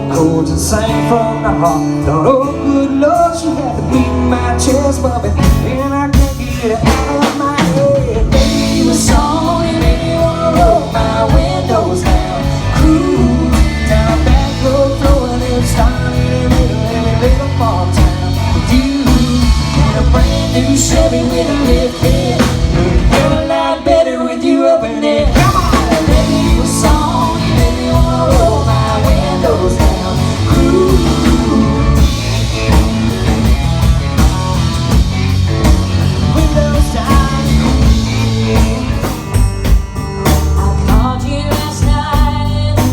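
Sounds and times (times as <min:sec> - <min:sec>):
rock song with full band: 0:00.0 - 0:42.9.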